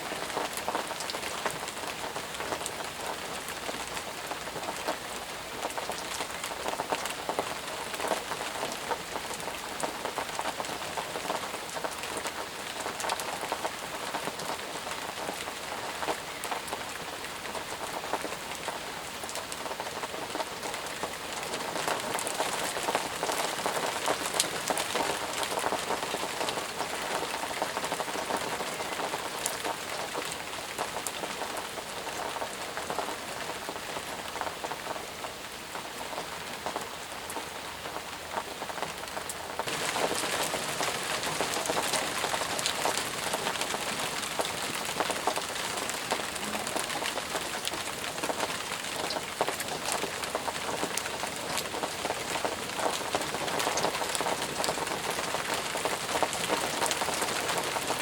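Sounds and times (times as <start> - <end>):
intense rain: 0.0 - 58.0.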